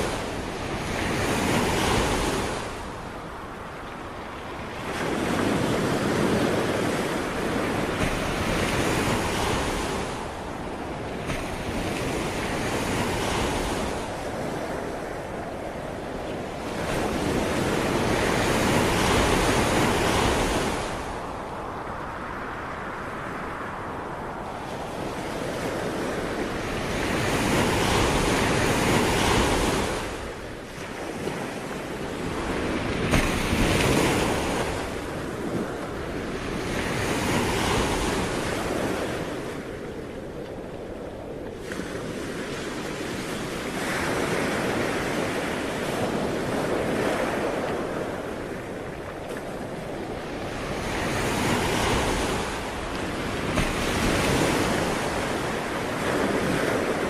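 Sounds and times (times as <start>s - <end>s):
sea waves breaking on shore: 0.0s - 57.0s
wind on microphone: 0.0s - 57.0s.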